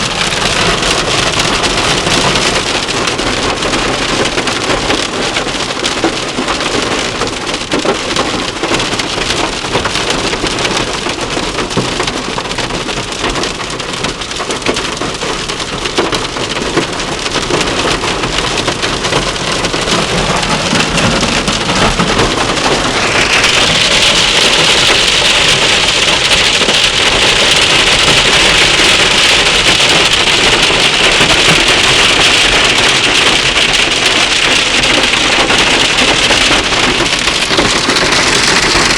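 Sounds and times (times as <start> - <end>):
hail and rain pelting a car: 0.0 - 38.9.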